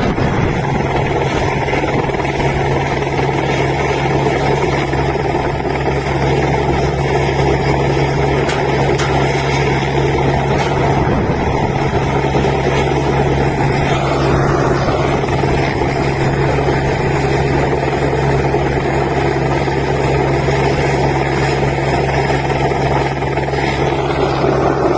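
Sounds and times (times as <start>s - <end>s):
helicopter rotor chopping: 0.0s - 24.9s.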